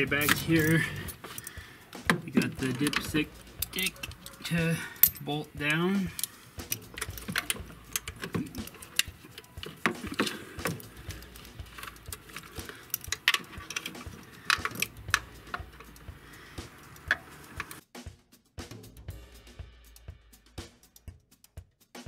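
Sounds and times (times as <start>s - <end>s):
metallic clicks of hand tools: 0.0s - 17.8s.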